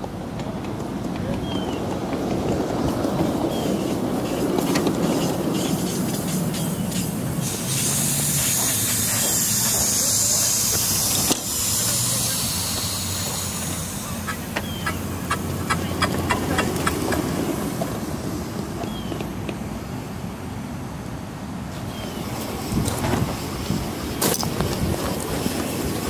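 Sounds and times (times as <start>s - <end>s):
steam hissing loudly: 2.8s - 19.8s, 21.7s - 26.0s.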